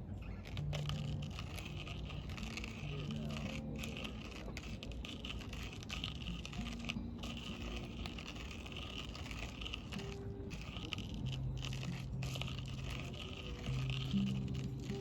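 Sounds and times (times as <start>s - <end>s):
campfire crackling and popping: 0.4s - 15.0s.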